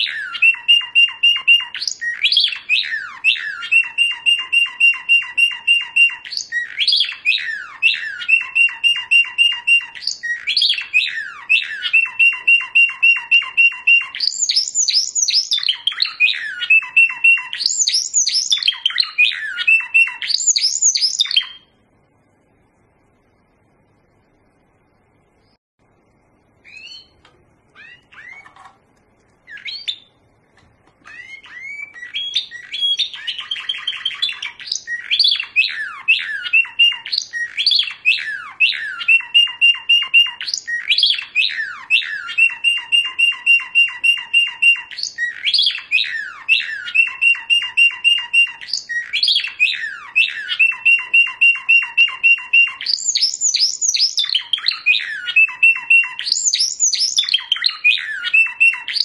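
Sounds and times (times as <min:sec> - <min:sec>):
bird chirping and trilling song: 0:00.0 - 0:22.4, 0:23.1 - 0:59.0.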